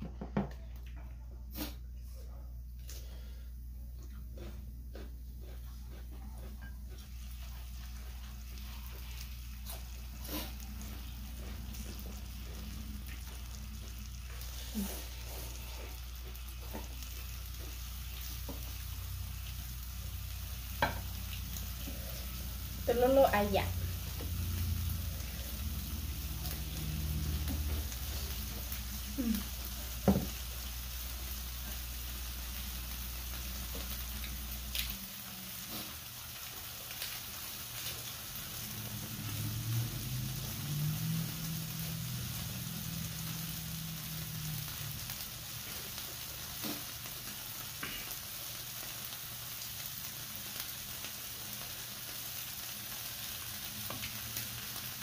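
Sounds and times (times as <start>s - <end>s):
meat sizzling on grill plate: 7.0s - 55.0s.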